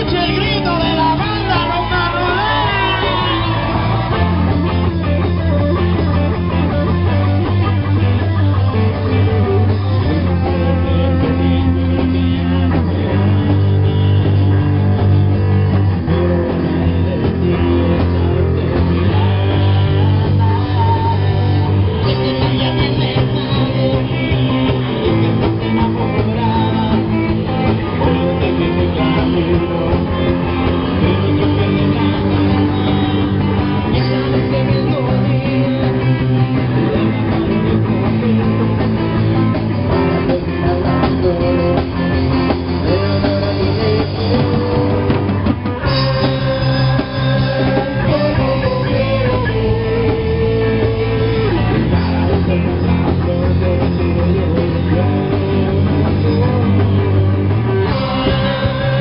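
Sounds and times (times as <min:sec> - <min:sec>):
electric guitar: 0:00.0 - 0:59.0.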